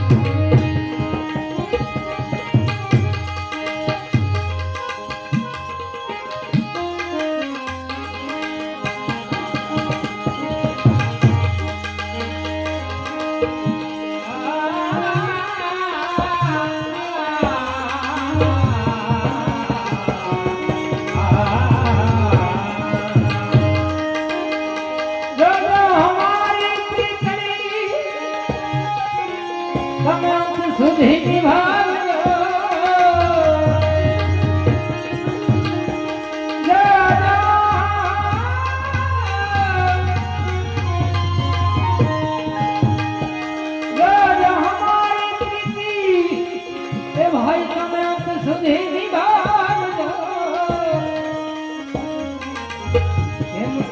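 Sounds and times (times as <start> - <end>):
tabla rhythm: 0.0 - 53.9.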